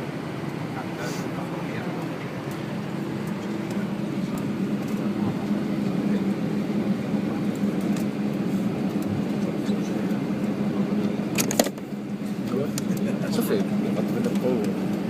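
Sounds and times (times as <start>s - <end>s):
airliner jet engines droning: 0.0s - 15.0s.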